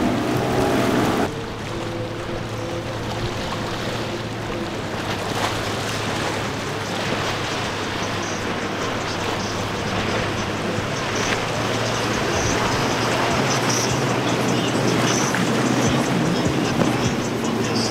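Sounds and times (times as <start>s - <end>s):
boat engines humming: 0.0s - 17.9s
churning water and waves: 0.0s - 17.9s
wind on microphone: 0.0s - 17.9s.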